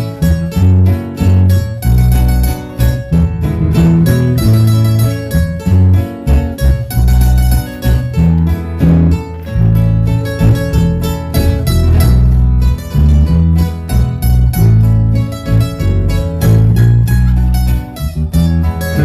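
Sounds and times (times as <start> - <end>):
deep bass notes: 0.0 - 19.0
plucked guitar notes: 0.0 - 19.0
rhythmic guitar strumming: 0.0 - 19.0.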